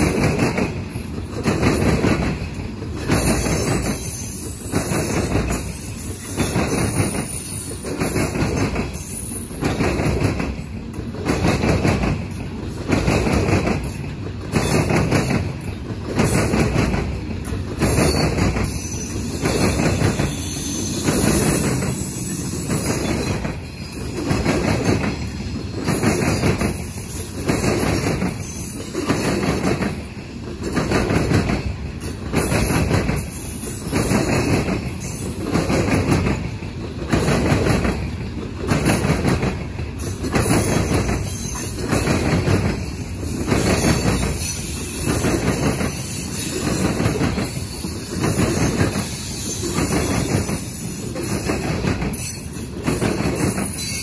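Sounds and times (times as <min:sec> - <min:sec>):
freight train rolling past: 0:00.0 - 0:54.0
steel wheels clacking over rail joints: 0:00.0 - 0:54.0.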